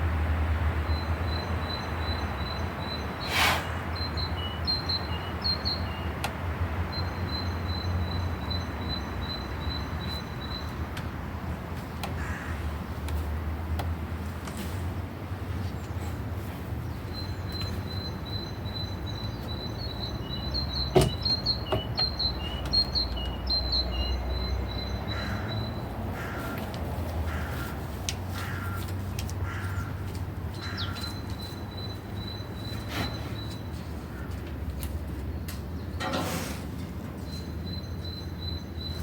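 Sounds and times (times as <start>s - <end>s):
wild birds singing: 0.8s - 6.3s, 6.9s - 11.1s, 15.6s - 39.0s.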